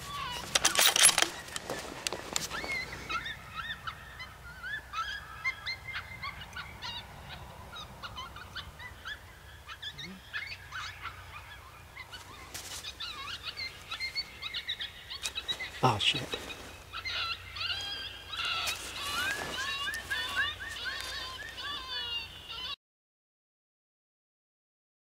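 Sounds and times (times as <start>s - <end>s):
birds chirping and calling: 0.0s - 22.8s.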